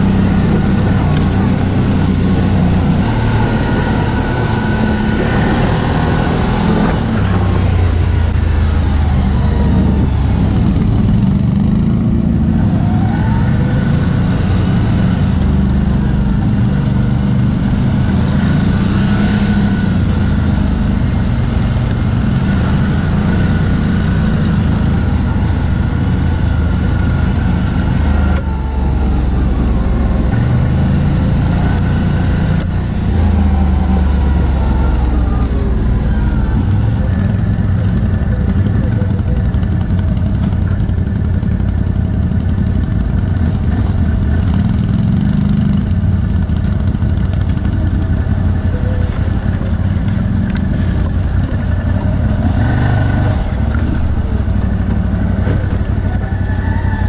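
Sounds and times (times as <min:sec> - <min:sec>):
atv engine revving while riding: 0:00.0 - 0:57.0.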